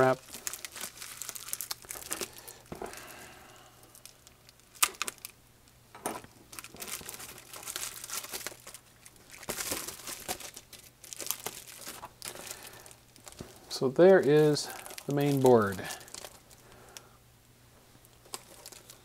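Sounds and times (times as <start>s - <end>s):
plastic packaging crinkling: 0.0s - 3.2s, 3.8s - 5.4s, 6.1s - 17.1s, 18.0s - 19.0s.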